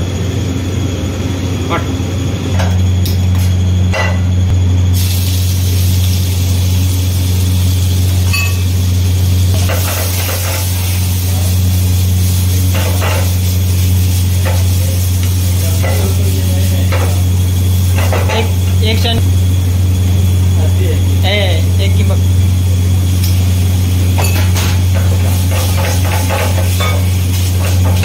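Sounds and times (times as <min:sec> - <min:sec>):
gas flame hissing and frying: 0:00.0 - 0:28.0
kitchen range machine hum: 0:00.0 - 0:28.0.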